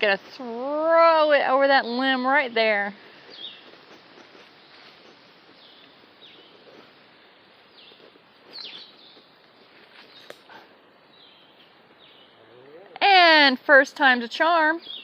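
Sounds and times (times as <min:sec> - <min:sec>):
faint outdoor hiss: 0:00.0 - 0:15.0
birds calling: 0:01.8 - 0:15.0.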